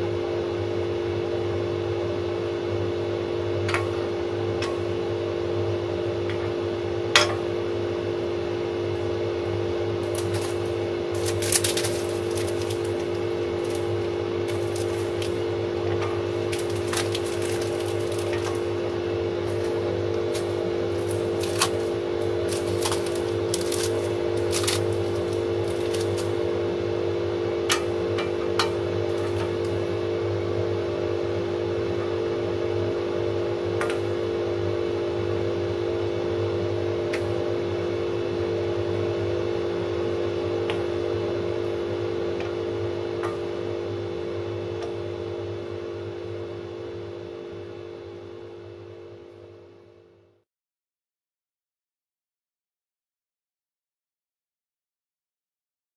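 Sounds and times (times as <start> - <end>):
steady motor hum: 0.0 - 50.4.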